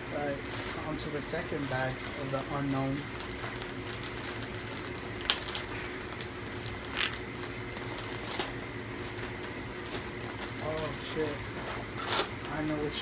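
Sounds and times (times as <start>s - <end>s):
plastic mailer tearing and crinkling: 0.1s - 13.0s.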